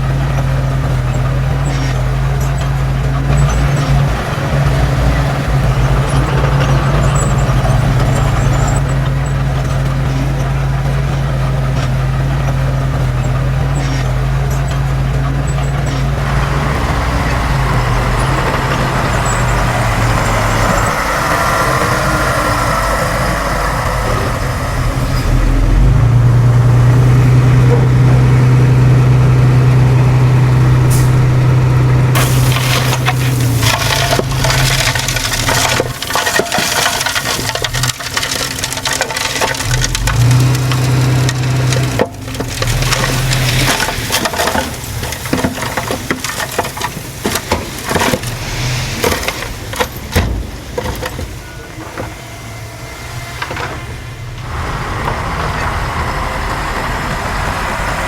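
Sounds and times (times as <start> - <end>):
crunching and clanking: 0.0 - 58.0
diesel engine running: 0.0 - 58.0.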